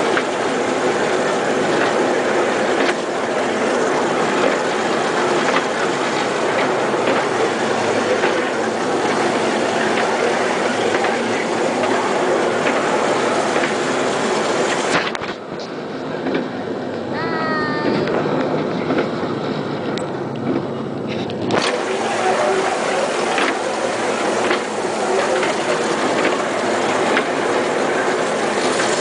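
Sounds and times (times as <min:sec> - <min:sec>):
miniature train clattering on track: 0:00.0 - 0:17.0, 0:17.8 - 0:29.0.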